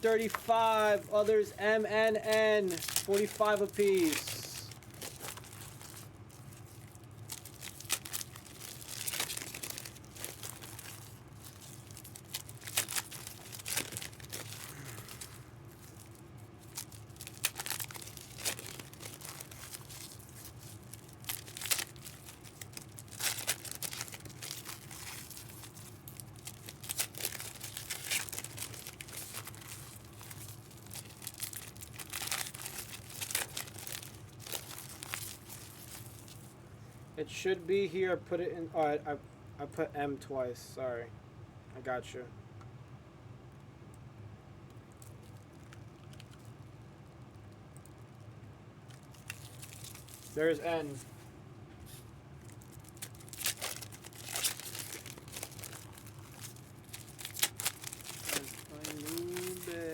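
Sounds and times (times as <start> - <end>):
packaging crinkling and rustling: 0.0 - 36.6, 44.7 - 51.3, 51.9 - 59.9.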